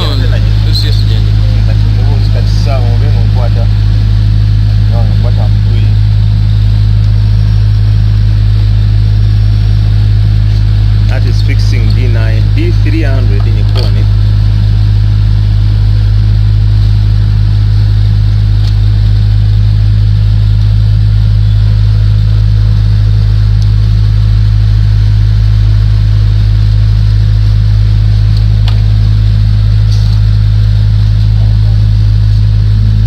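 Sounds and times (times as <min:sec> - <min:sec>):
loud low hum: 0:00.0 - 0:33.0.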